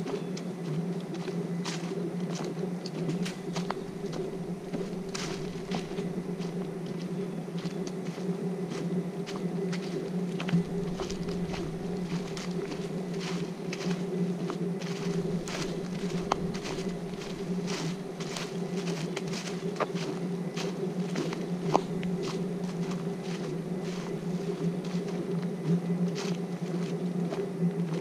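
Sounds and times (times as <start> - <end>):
footsteps clicking and scuffing: 0.0 - 28.0
low buzzing hum: 0.0 - 28.0.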